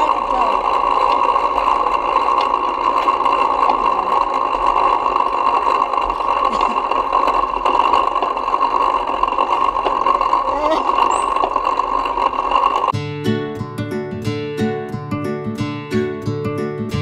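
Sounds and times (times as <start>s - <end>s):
bike riding drone with rattle: 0.0s - 17.0s.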